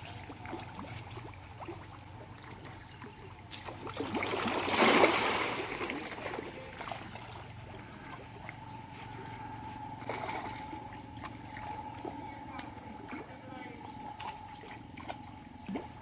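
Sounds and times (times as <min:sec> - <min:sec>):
water splashing: 0:00.0 - 0:08.7, 0:10.0 - 0:16.0
faint steady hum: 0:00.0 - 0:16.0.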